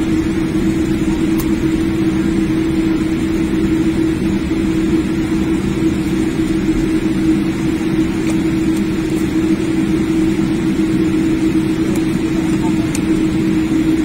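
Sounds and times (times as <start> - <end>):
airliner cabin engine drone: 0.0 - 14.0.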